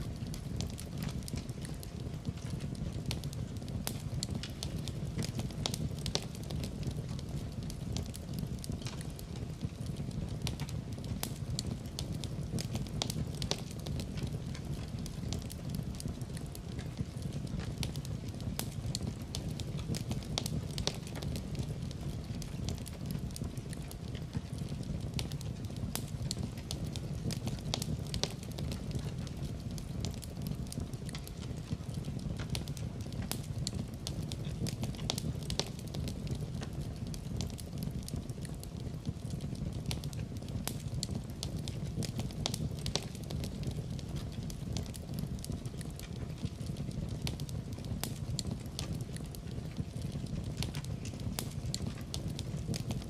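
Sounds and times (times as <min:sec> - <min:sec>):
fire crackling and popping: 0:00.0 - 0:53.0
low rumble of flame: 0:00.0 - 0:53.0.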